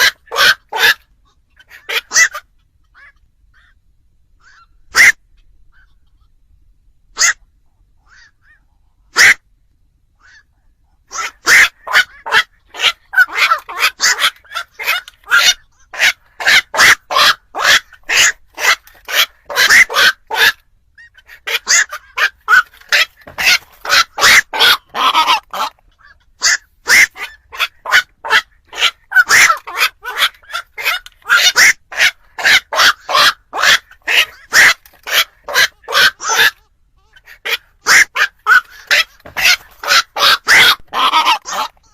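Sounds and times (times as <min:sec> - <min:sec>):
herons croaking: 0:00.0 - 0:06.2, 0:07.2 - 0:09.5, 0:10.1 - 0:41.9.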